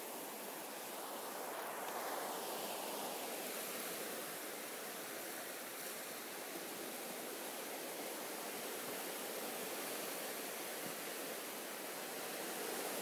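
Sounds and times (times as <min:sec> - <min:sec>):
surf washing up on beach: 0:00.0 - 0:13.0.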